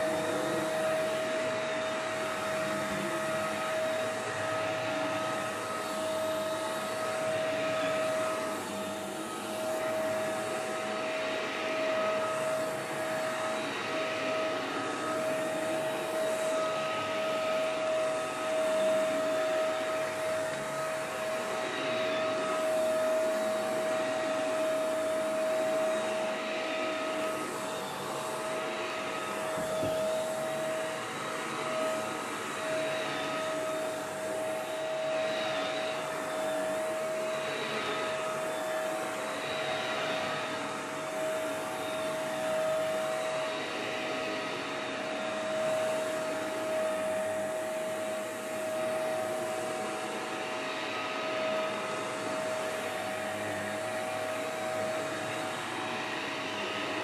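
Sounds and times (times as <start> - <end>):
vacuum cleaner running on carpet: 0.0 - 57.0.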